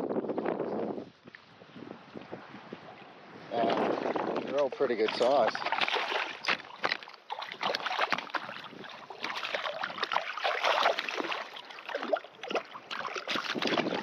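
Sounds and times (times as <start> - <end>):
shallow water splashing: 1.8 - 14.0.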